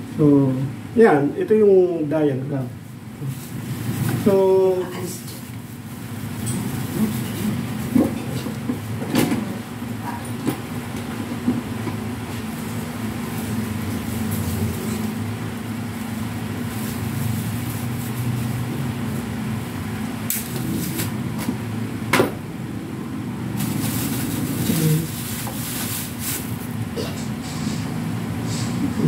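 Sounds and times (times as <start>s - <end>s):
refrigerator compressor hum: 0.0s - 29.0s.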